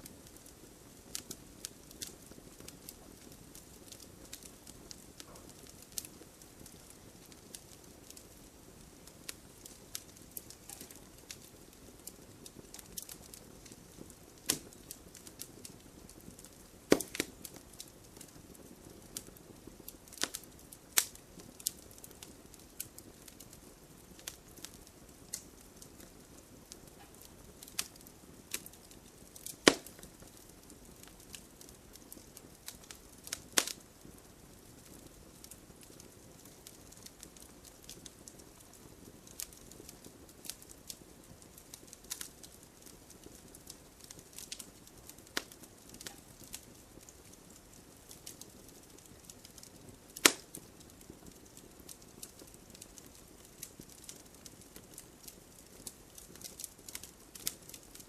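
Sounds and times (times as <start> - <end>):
campfire crackling: 0.0 - 58.0
hiss of burning: 0.0 - 58.0.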